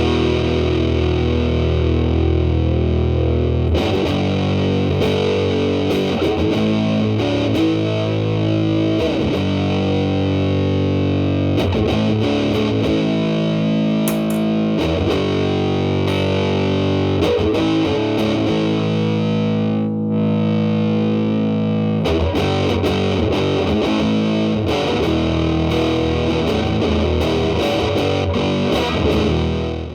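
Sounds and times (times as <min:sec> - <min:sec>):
fuzz electric guitar chords ringing: 0:00.0 - 0:29.9.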